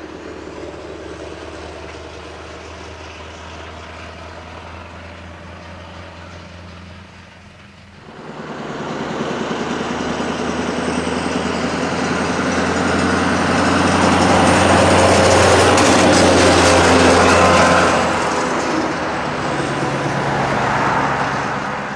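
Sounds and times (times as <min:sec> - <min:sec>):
diesel truck passing: 0:00.0 - 0:21.9.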